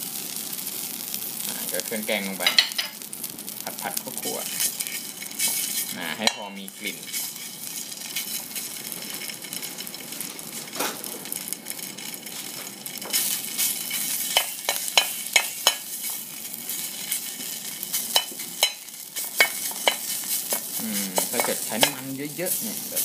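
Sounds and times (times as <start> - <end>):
paste sizzling in oil: 0.0 - 23.0.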